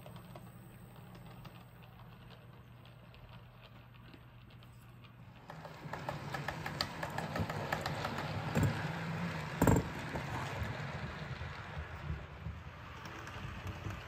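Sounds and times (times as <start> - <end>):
model train clicking and rattling: 0.0 - 14.0.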